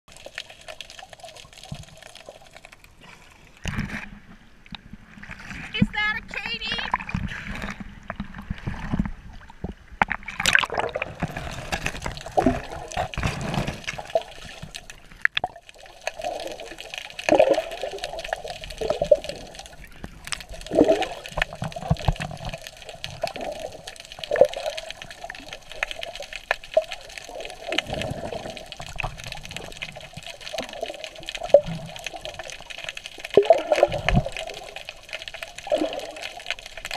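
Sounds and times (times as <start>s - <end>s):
water sloshing and gurgling: 0.1s - 36.9s.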